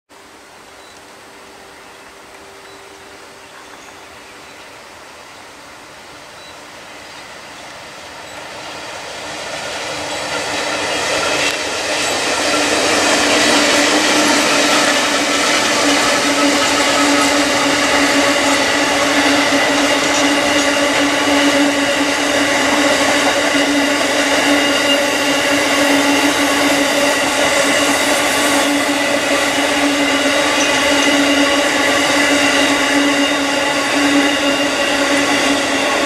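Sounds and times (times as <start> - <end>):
diesel locomotive engine drone: 0.1 - 36.0
train wagons rolling past: 6.2 - 36.0.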